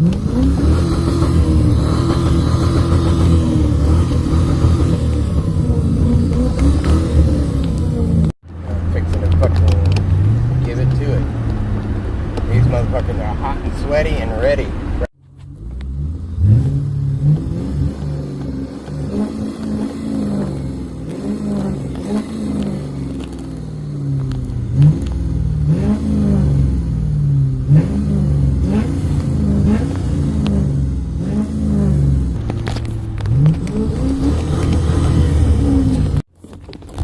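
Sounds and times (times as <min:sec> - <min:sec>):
car engine revving: 0:00.0 - 0:36.3.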